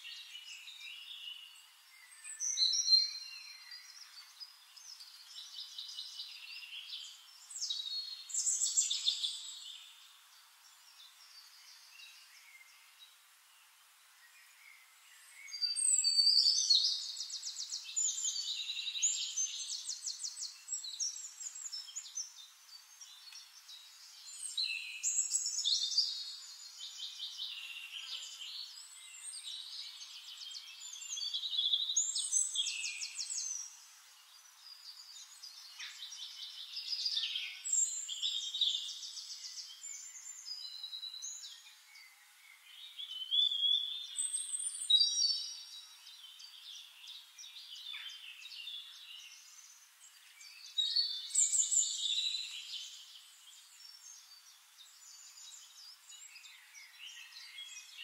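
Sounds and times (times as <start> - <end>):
birds singing trills: 0.0 - 58.0.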